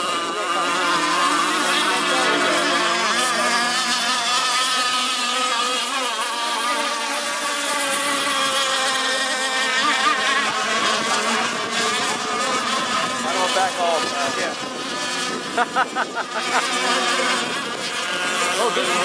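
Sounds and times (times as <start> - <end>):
small two-stroke engines buzzing: 0.0 - 19.0.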